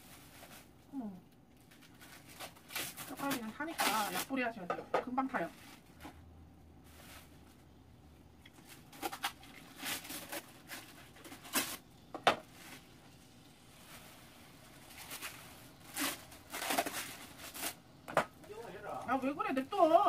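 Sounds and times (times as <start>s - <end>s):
plastic wrapping crinkling: 0.0s - 4.6s, 8.4s - 20.0s.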